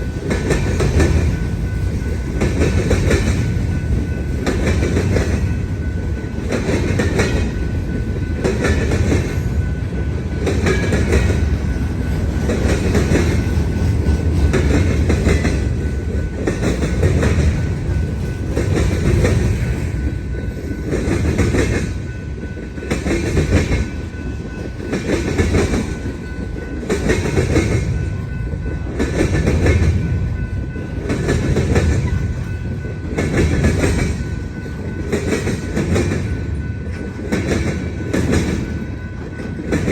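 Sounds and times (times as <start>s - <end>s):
low train rumble: 0.0s - 39.9s
train wheels clattering over crossing: 0.0s - 39.9s.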